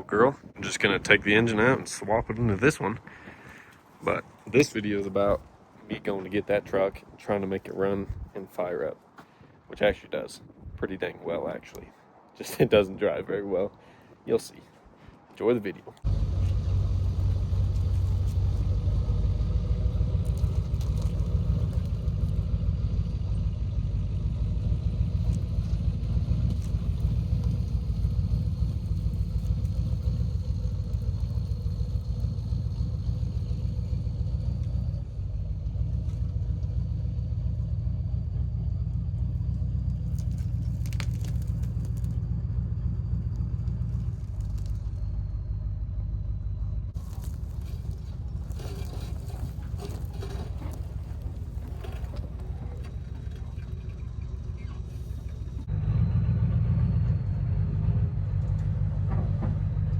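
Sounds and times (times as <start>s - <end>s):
vehicle driving rumble: 0.0s - 13.8s, 15.8s - 59.9s.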